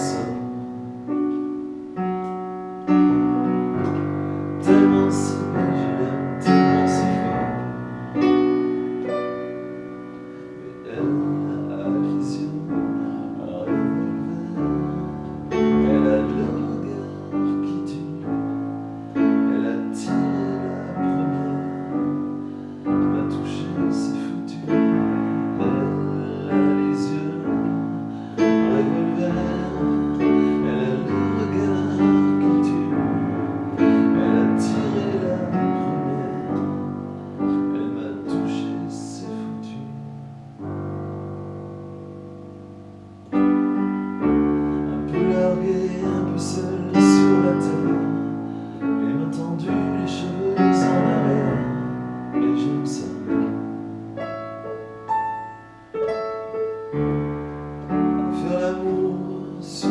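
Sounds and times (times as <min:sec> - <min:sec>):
solo piano playing chords: 0:00.0 - 0:59.9.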